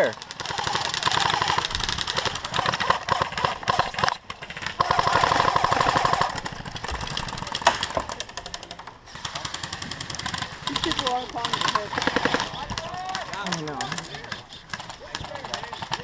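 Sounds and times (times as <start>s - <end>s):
airsoft guns firing full-auto: 0.0s - 16.0s.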